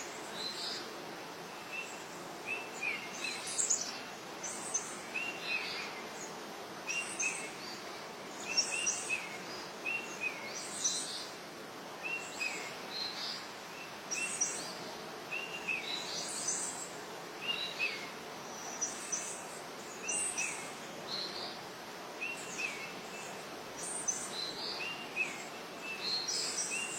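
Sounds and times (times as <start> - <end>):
steady background hiss: 0.0 - 26.9.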